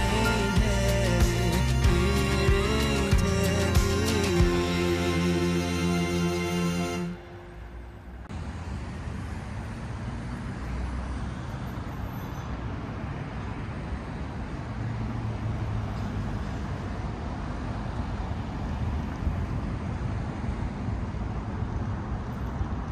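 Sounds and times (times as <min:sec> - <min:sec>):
traffic noise with low rumble: 0:00.0 - 0:22.9.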